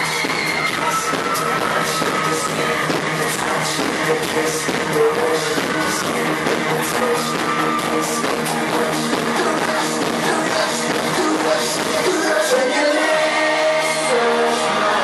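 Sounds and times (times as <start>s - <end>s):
drum kit beat: 0.0s - 12.6s
pop-rock band playing: 0.0s - 15.0s.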